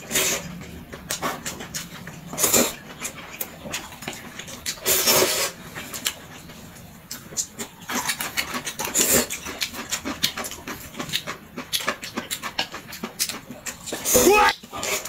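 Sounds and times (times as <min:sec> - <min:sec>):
noodles being slurped: 0:00.0 - 0:15.0.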